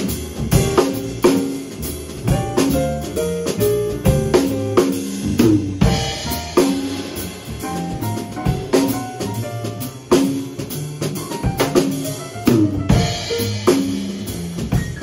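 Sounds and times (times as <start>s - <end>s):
drum kit hits: 0.0s - 15.0s
jazz trio playing blues: 0.0s - 15.0s.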